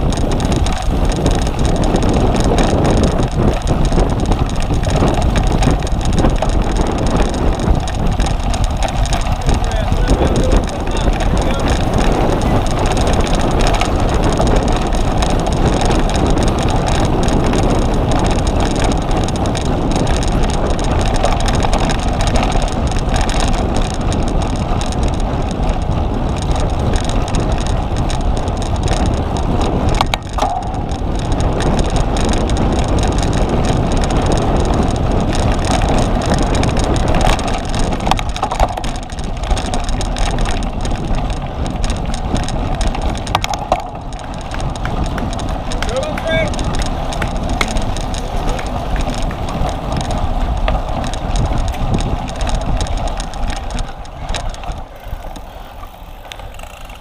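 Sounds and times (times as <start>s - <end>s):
bike tyres and drivetrain rattling: 0.0s - 57.0s
wind buffeting microphone: 0.0s - 57.0s.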